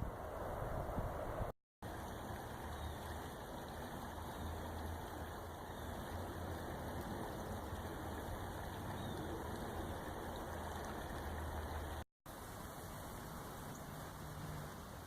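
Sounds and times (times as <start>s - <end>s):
river water rushing: 1.8s - 15.0s.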